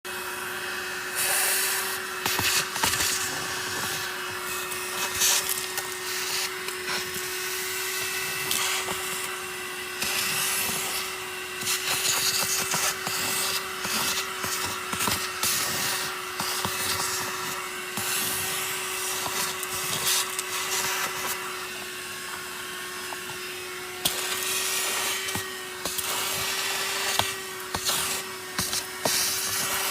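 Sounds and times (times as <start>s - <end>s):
vacuum cleaner motor whine: 0.1s - 29.9s.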